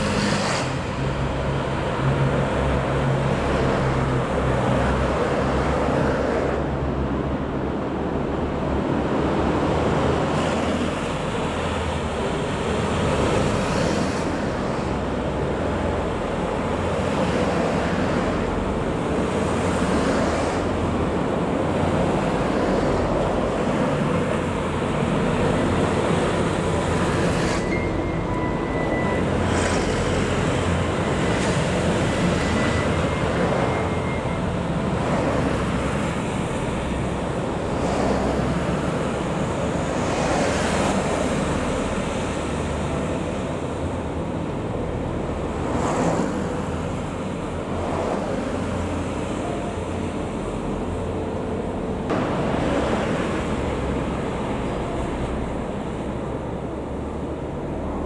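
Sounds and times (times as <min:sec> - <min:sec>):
cars and trucks passing: 0:00.0 - 0:58.0
road traffic roar: 0:00.0 - 0:58.0.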